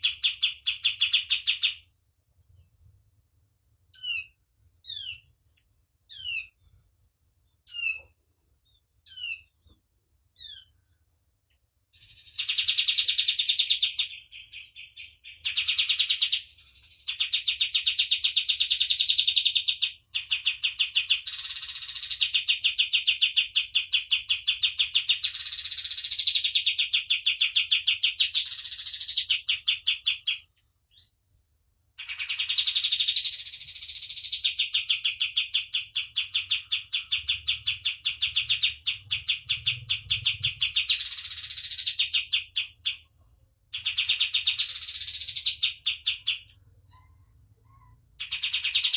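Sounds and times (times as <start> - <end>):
songbird chirps and trill: 0.0 - 48.9.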